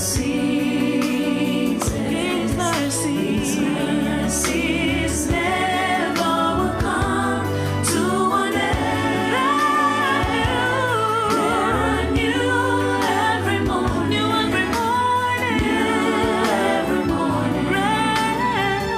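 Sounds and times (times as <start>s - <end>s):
gospel choir singing: 0.0s - 18.9s.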